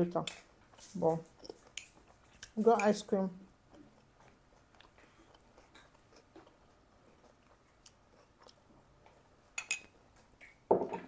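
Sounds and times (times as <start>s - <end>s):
soft chewing: 0.1s - 10.7s.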